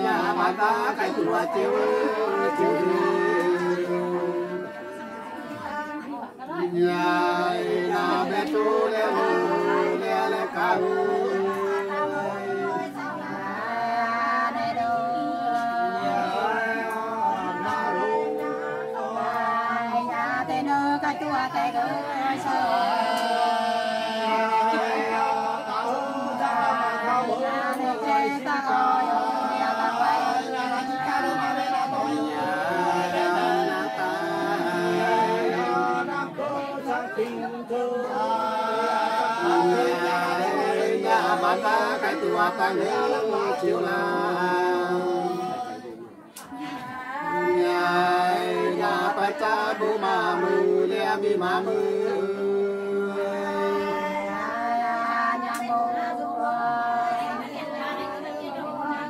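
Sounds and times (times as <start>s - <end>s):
women singing unaccompanied: 0.0s - 59.0s.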